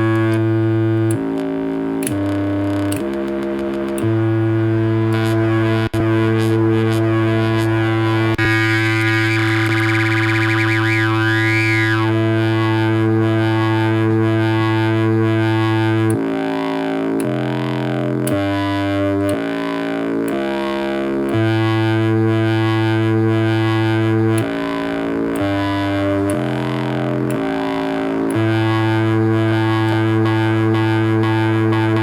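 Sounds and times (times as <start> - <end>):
buzzy synthesizer notes: 0.0 - 32.0.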